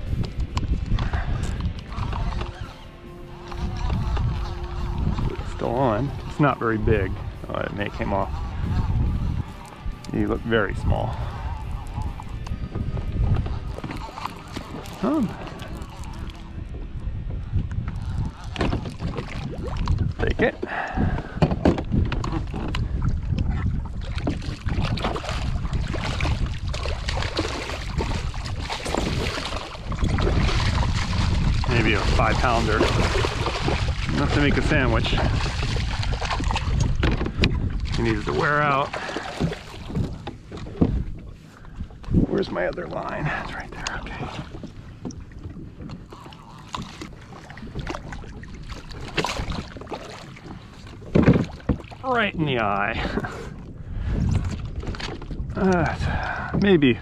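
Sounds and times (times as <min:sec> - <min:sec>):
water lapping: 0:00.0 - 0:57.0
wind rumbling on microphone: 0:00.0 - 0:57.0.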